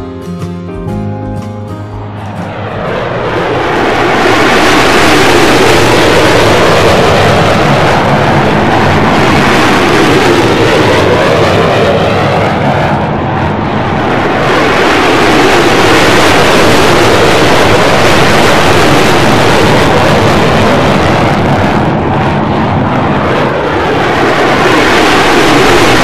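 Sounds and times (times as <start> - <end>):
engine rushing roar: 1.9 - 26.0.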